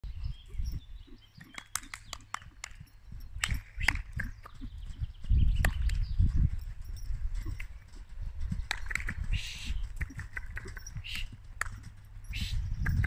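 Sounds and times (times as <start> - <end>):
horse hoofbeats on sand: 0.2 - 13.0.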